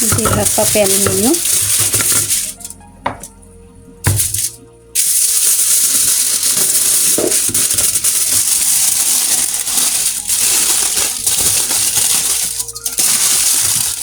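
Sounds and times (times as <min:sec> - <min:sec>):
aluminium foil crinkling: 0:00.0 - 0:03.2, 0:04.1 - 0:14.0.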